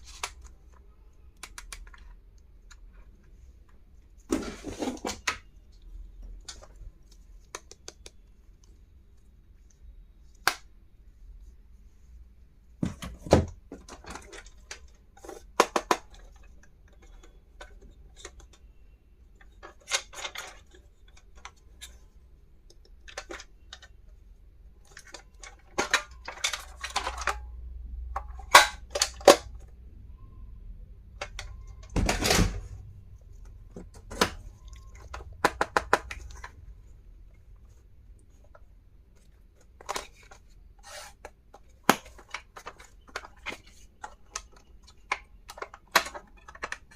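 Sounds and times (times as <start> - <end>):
plastic items clicking and clattering: 0.0 - 8.2, 12.8 - 29.7, 31.1 - 46.9.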